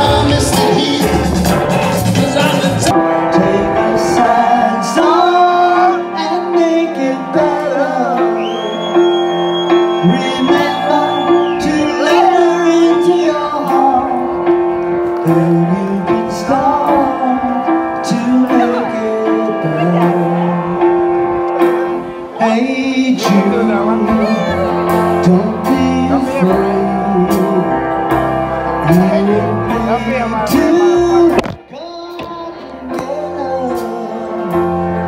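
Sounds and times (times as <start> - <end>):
electric guitars: 0.0 - 35.0
live band playing: 0.0 - 35.0
person singing: 0.0 - 35.0.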